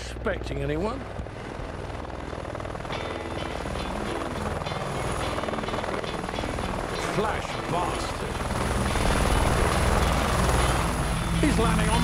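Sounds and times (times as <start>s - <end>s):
helicopter rotor and turbine: 0.0s - 12.0s.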